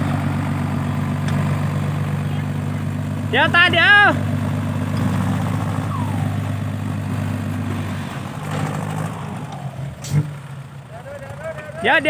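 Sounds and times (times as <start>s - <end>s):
heavy vehicle engine idling: 0.0s - 12.0s.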